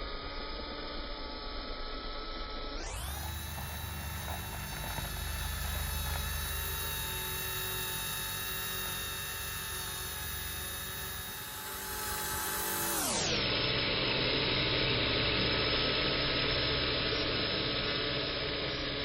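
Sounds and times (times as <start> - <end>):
rc helicopter motors whining: 0.0 - 19.0.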